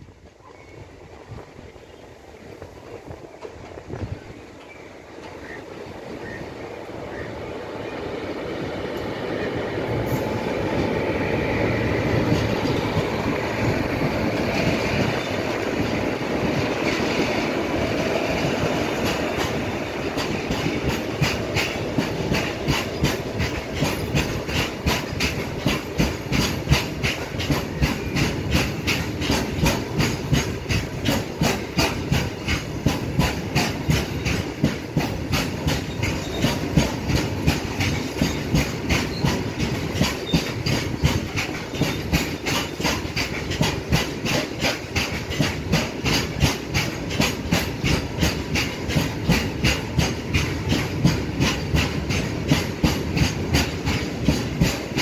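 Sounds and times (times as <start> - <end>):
electric locomotive passing: 0.0 - 55.0
train wheels clickety-clack: 0.0 - 55.0.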